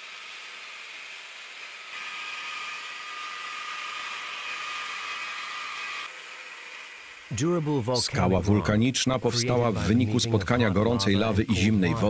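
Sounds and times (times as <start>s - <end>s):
saw whine: 0.0s - 12.0s.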